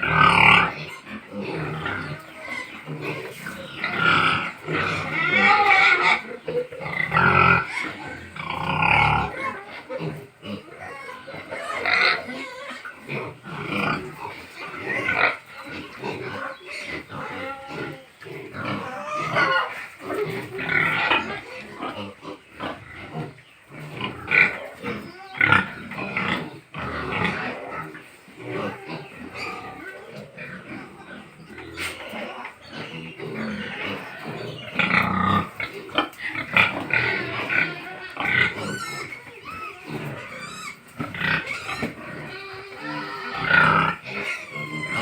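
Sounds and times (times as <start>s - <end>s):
pigs grunting and squealing: 0.0s - 45.0s.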